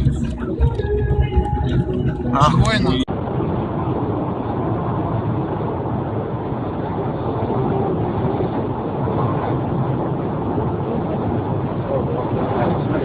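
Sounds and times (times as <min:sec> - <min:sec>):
low rumble on microphone: 0:00.0 - 0:13.0
strong wind blowing: 0:00.0 - 0:13.0.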